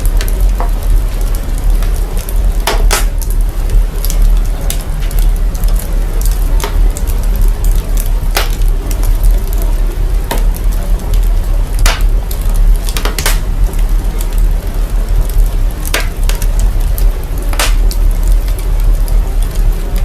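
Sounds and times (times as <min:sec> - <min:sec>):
crackling fire: 0:00.0 - 0:20.0
sharp fire pops: 0:00.0 - 0:20.0
sub-bass rumble: 0:00.0 - 0:20.0.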